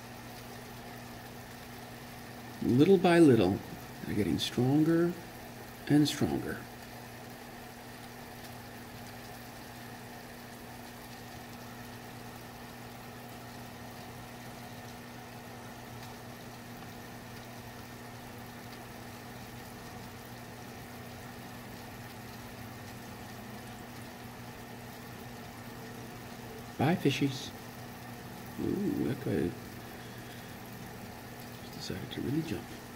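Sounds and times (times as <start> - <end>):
fish tank equipment hum: 0.0 - 32.9.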